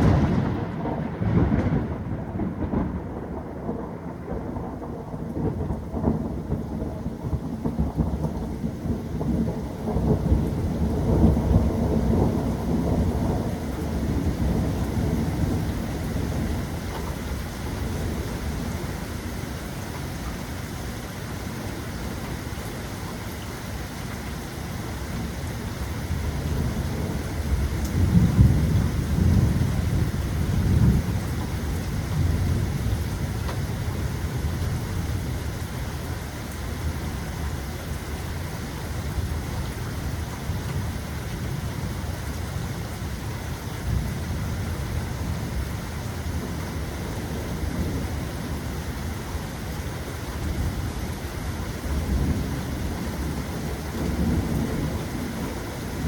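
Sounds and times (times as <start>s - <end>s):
rolling thunder: 0.0s - 19.3s, 25.2s - 35.7s, 38.9s - 49.8s, 50.4s - 56.0s
steady rain: 0.0s - 56.0s.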